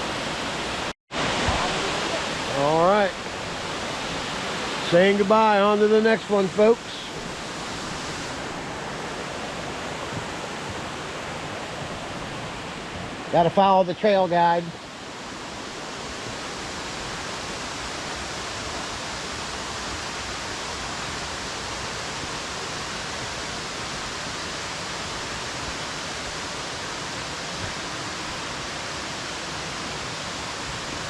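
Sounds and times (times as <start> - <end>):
fast-flowing water rushing: 0.0 - 31.0.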